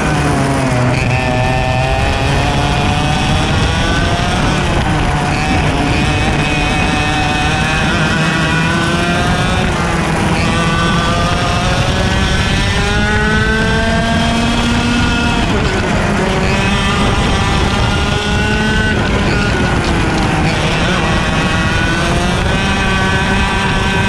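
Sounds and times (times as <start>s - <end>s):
kart engine revving: 0.0s - 24.0s
wind rushing over camera: 0.0s - 24.0s.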